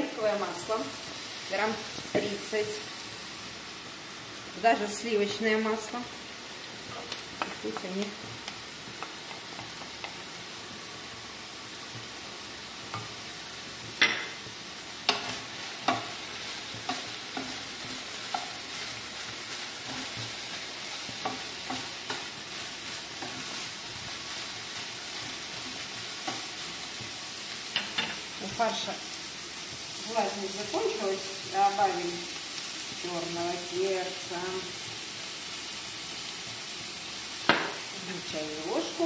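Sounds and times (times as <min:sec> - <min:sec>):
meat sizzling in frying pan: 0:00.0 - 0:39.0.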